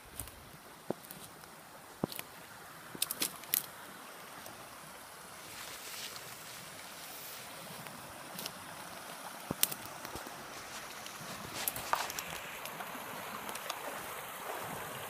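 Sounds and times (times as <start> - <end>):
small stream rushing: 0.0 - 15.0.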